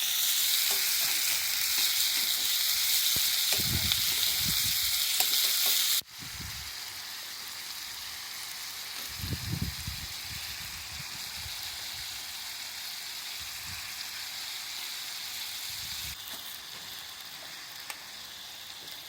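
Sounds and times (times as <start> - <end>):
fire crackles: 0.0 - 19.0
food sizzling over fire: 0.0 - 19.0.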